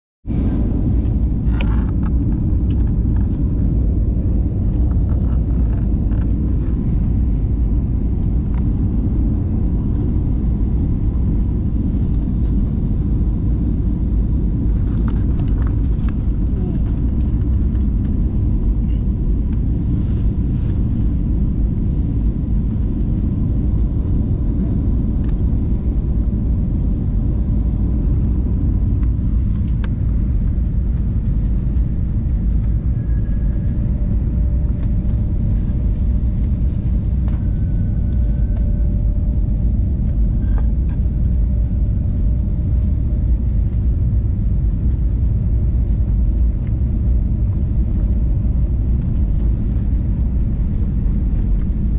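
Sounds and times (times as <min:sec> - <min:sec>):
jet engines and rushing air: 0:00.2 - 0:51.9
faint steady whine: 0:00.3 - 0:51.9.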